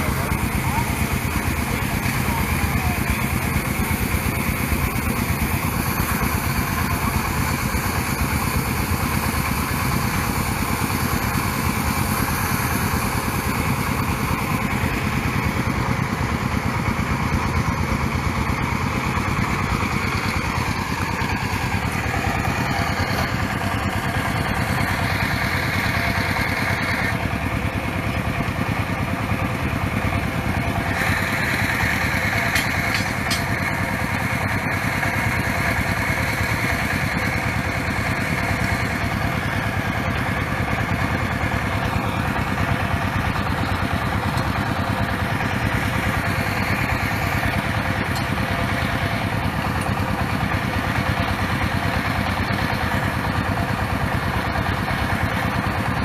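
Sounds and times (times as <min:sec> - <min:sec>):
small stationary engine running: 0:00.0 - 0:56.0.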